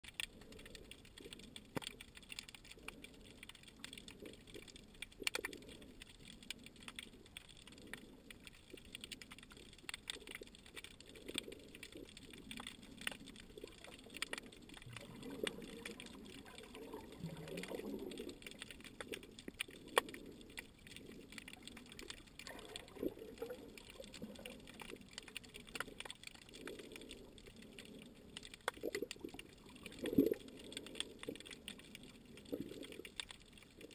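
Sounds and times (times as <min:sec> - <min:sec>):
sharp clicks and crackles: 0:00.0 - 0:33.9
underwater sloshing: 0:00.0 - 0:33.9.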